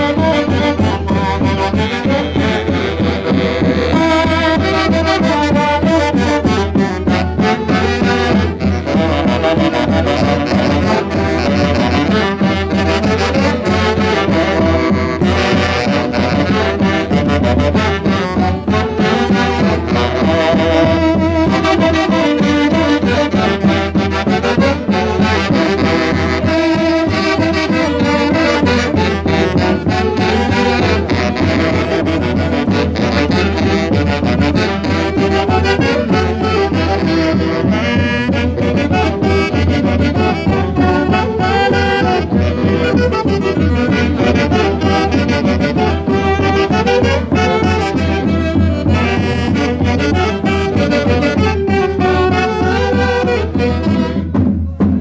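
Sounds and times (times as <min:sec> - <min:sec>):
brass band dance music: 0:00.0 - 0:55.0.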